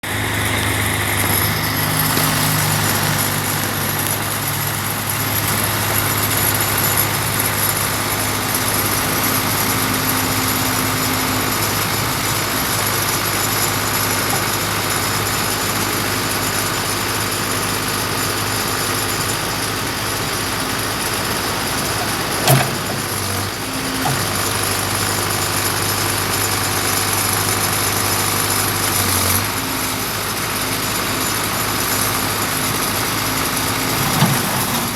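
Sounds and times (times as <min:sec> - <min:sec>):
backhoe engine idling: 0:00.0 - 0:34.9.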